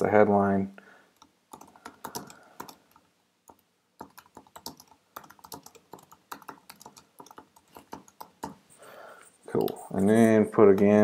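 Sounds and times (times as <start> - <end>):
keyboard typing: 1.2 - 8.7, 9.5 - 11.0.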